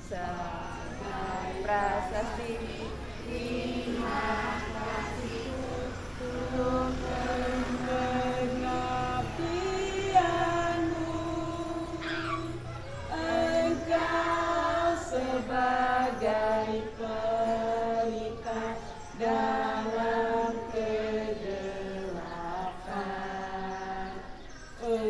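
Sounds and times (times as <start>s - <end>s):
children singing in unison: 0.0s - 25.0s.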